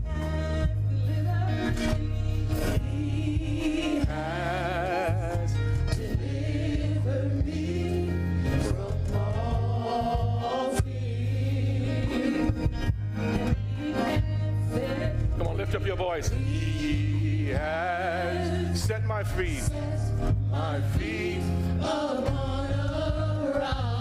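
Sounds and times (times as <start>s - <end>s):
voices singing with vibrato: 0.0s - 24.0s.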